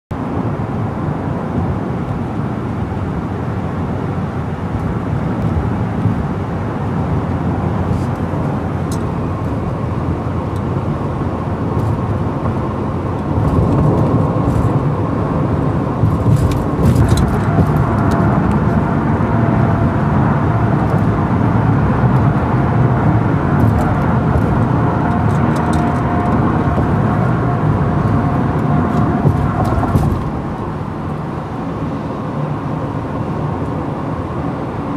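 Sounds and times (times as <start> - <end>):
car cabin road rumble: 0.2 - 34.9.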